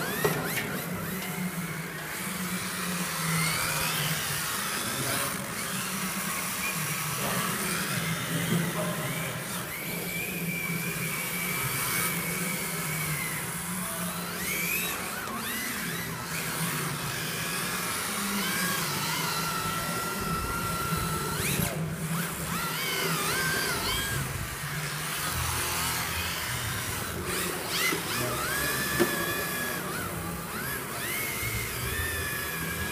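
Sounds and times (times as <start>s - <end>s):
electric motors whining: 0.0s - 32.9s
steady low hum: 0.0s - 32.9s.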